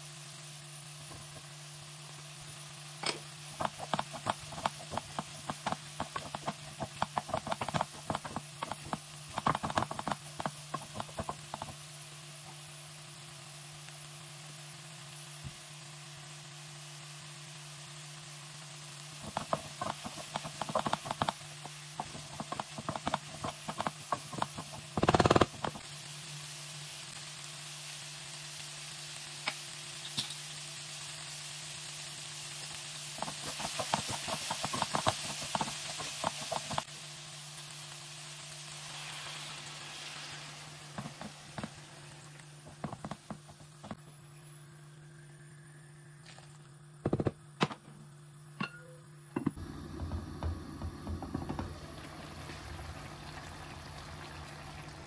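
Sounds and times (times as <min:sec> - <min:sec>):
vegetables sizzling in a pot: 0:00.0 - 0:55.0.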